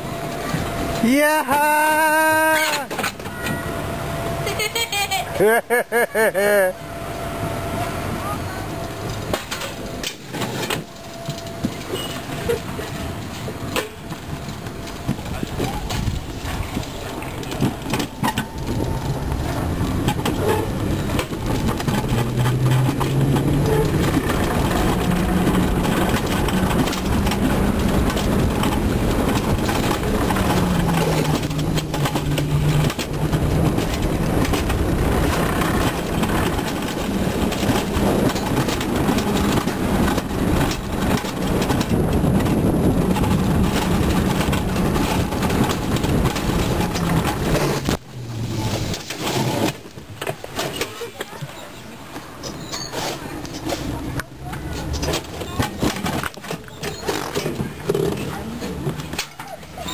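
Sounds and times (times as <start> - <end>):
sled wheels rumbling on steel track: 0.0 - 59.9.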